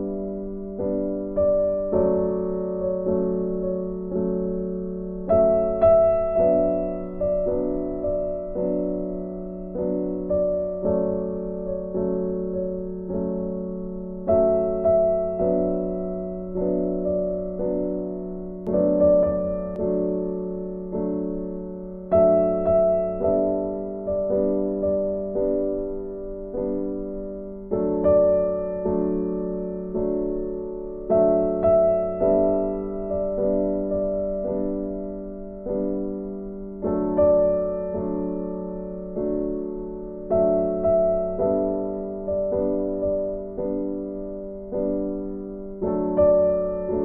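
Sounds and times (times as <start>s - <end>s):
slow soft piano chords: 0.0s - 47.0s.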